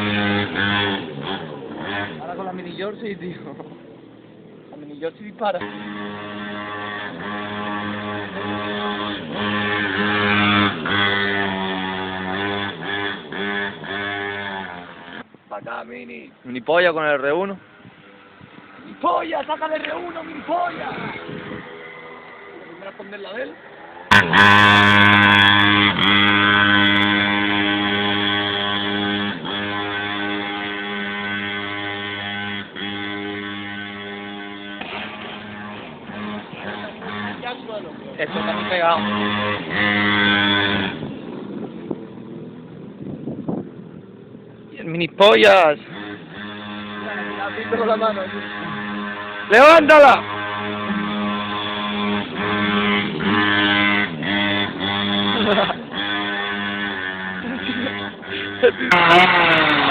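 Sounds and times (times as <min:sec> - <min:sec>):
mini moto engine revving: 0:00.0 - 0:03.6, 0:05.0 - 0:15.4, 0:16.8 - 0:44.0, 0:44.7 - 0:59.9.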